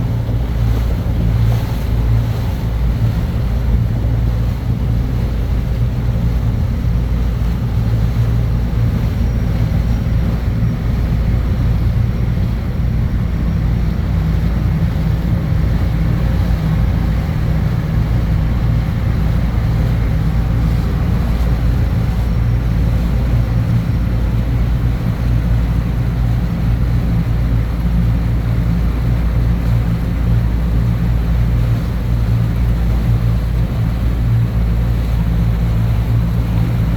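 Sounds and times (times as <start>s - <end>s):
boat engine droning: 0.0s - 36.9s
water noise: 0.0s - 36.9s
wind: 0.0s - 36.9s.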